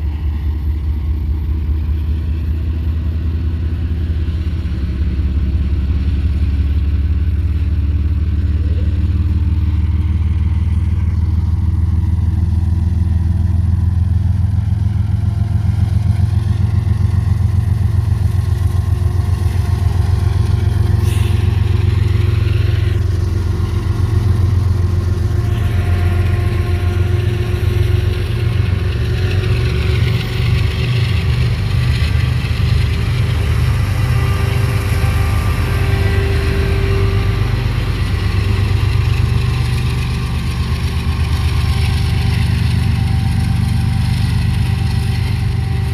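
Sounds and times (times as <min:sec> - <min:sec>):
locomotive engines rumbling: 0:00.0 - 0:45.9.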